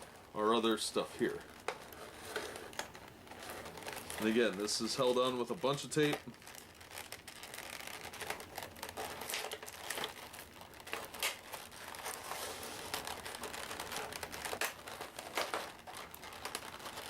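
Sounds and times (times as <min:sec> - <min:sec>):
plastic crinkling: 0:00.0 - 0:17.0
sticky tape peeling off plastic: 0:00.6 - 0:17.0.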